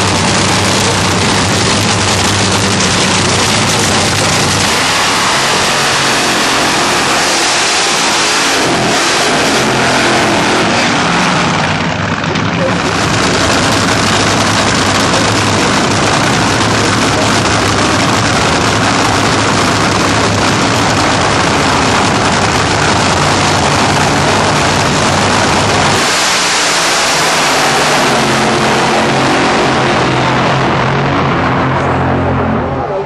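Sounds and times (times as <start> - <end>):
drag car engines roaring: 0.0 - 33.0.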